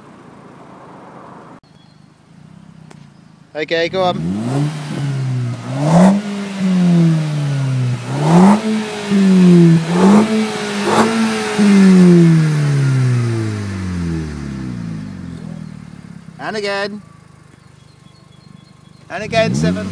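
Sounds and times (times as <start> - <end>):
car engine revving: 2.3 - 19.9.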